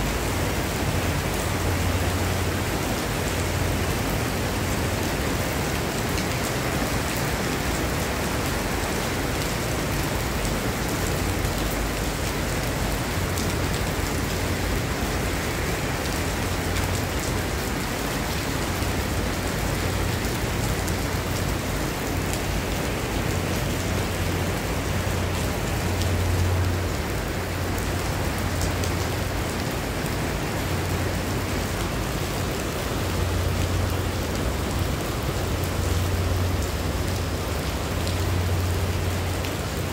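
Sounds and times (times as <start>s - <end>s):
heavy rain on paving: 0.0s - 39.9s.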